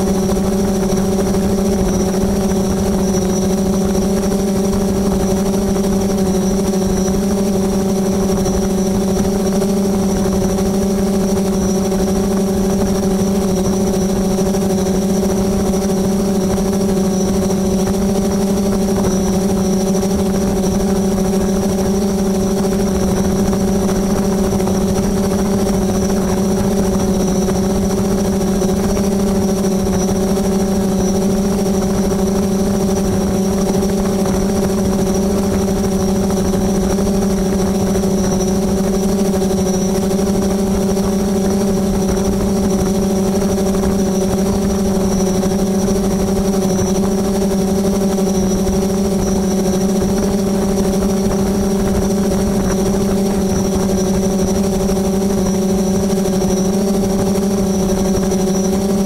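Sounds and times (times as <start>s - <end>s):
drone propellers humming: 0.0s - 59.0s
thin high whine: 0.0s - 59.0s.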